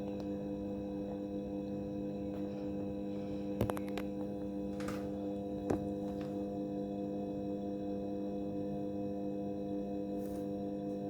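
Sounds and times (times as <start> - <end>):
washing machine motor hum: 0.0 - 11.0.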